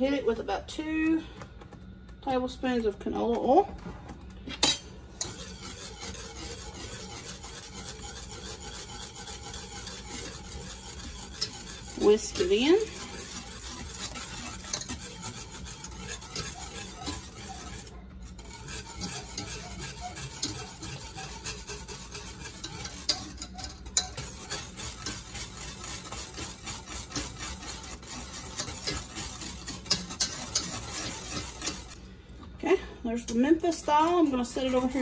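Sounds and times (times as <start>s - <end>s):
whisk scraping a saucepan: 4.6s - 32.1s, 33.0s - 35.0s.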